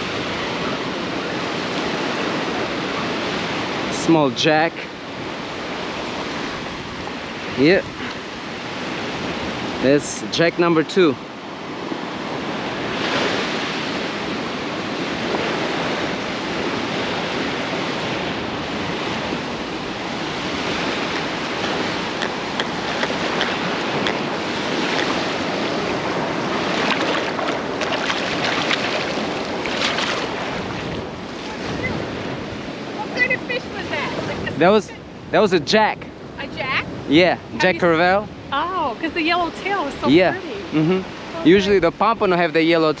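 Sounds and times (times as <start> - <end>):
wind on microphone: 0.0 - 42.4
ocean surf washing on beach: 0.0 - 43.0.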